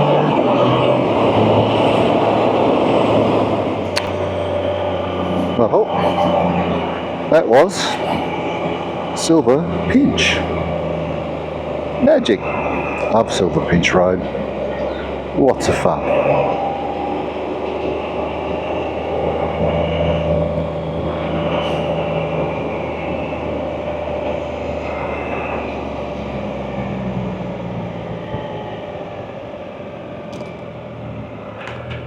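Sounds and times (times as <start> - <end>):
motorcycle engine cruising: 0.0 - 32.0
road and wind noise: 0.0 - 32.0.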